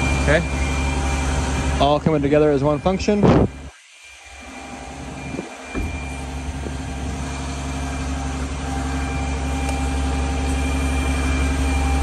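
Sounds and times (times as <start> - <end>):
hydraulics high tone: 0.0 - 12.0
truck diesel engine hum: 0.0 - 12.0.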